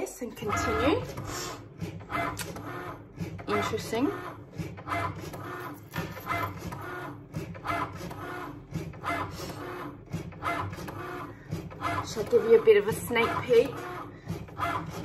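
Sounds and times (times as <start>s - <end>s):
cutting machine motors whirring: 0.0s - 15.0s.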